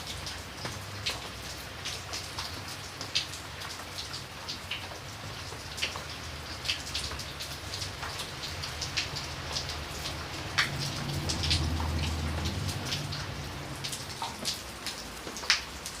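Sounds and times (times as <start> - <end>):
rain falling: 0.0 - 16.0
raindrops striking sharply: 0.0 - 16.0.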